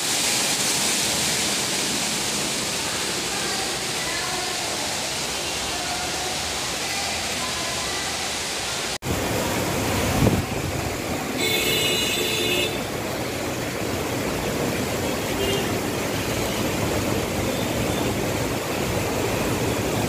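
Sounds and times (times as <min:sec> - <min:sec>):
heavy rain on a street: 0:00.0 - 0:20.0
road traffic: 0:00.0 - 0:20.0.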